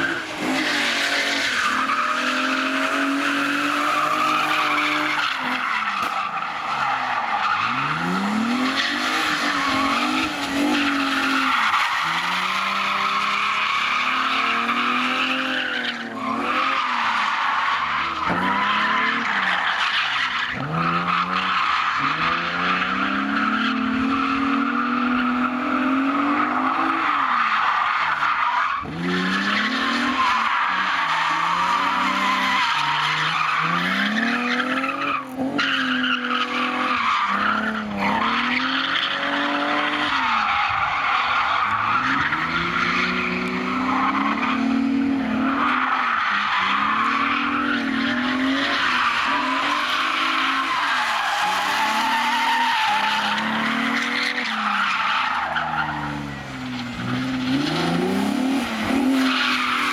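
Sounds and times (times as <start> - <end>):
car engine revving: 0.0 - 59.9
tyres squealing on tarmac: 0.0 - 59.9.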